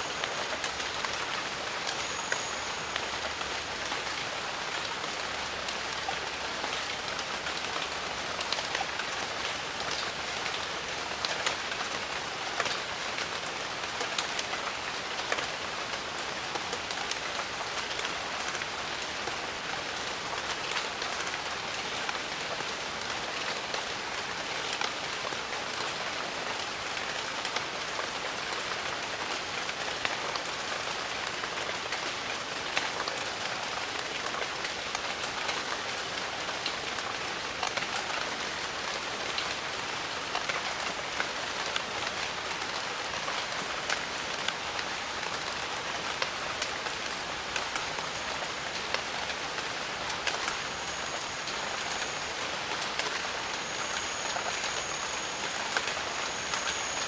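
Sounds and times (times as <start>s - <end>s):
steady rain with close drops: 0.0s - 57.0s.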